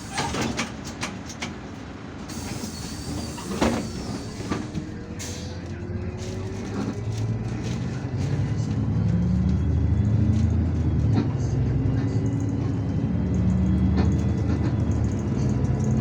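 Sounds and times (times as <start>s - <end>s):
bus engine: 0.0s - 16.0s
rattles and knocks inside bus: 0.0s - 16.0s.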